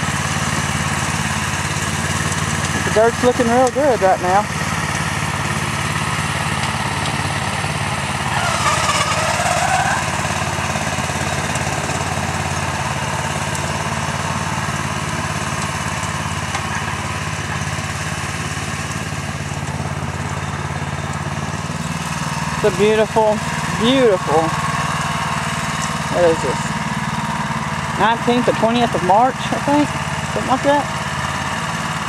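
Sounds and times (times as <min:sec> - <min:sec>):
tiller engine running: 0:00.0 - 0:32.0.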